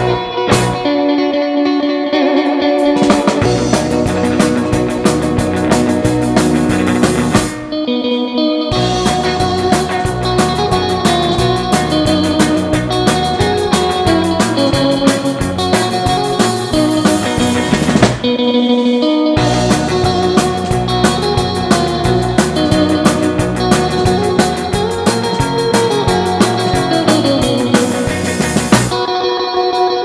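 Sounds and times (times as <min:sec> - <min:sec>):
drums and cymbals: 0:00.0 - 0:00.9, 0:02.8 - 0:07.7, 0:08.7 - 0:29.1
bass guitar: 0:00.0 - 0:29.3
electric guitar with effects: 0:00.0 - 0:30.0.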